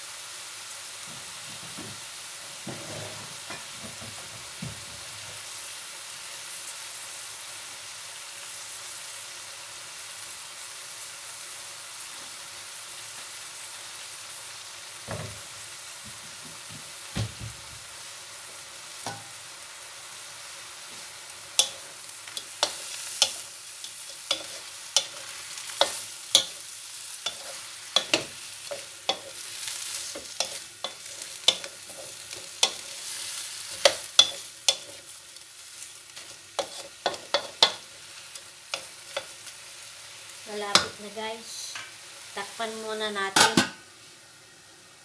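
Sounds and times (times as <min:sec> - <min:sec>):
shrimp sizzling in a wok: 0:00.0 - 0:45.0.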